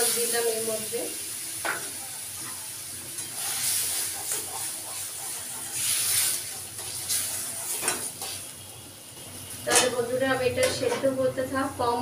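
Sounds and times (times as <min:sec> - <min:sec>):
water sizzling in a frying pan: 0:00.0 - 0:12.0.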